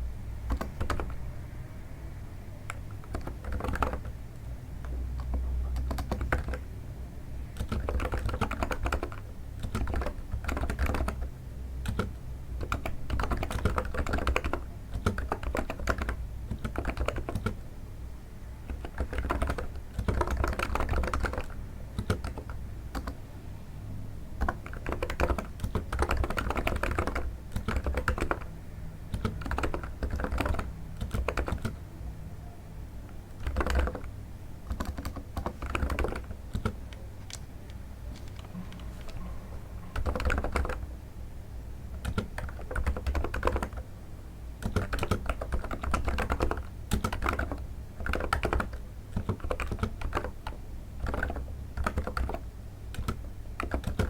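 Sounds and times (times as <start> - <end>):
low steady hum: 0.0 - 54.0
keyboard typing: 0.4 - 1.3, 2.6 - 6.8, 7.4 - 17.6, 18.6 - 23.2, 24.4 - 31.9, 33.0 - 41.0, 41.8 - 43.9, 44.6 - 54.0.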